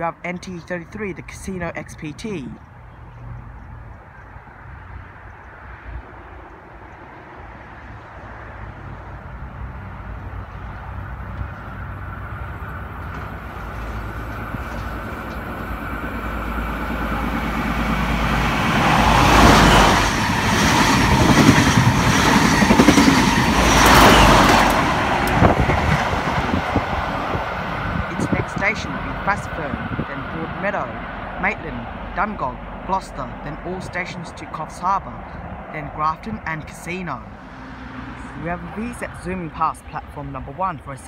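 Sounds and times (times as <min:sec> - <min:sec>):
diesel train passing at speed: 0:00.0 - 0:41.0.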